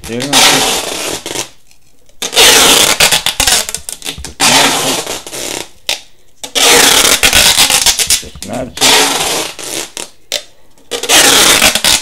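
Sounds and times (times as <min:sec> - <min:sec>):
adhesive tape pulled off roll: 0:00.0 - 0:12.0.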